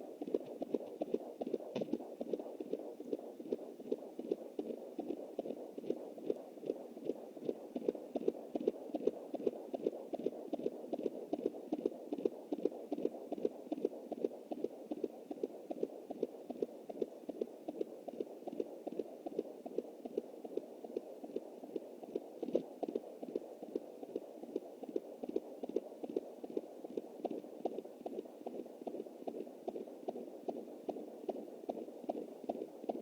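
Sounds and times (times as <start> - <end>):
fetal heartbeat on doppler: 0.0 - 33.0.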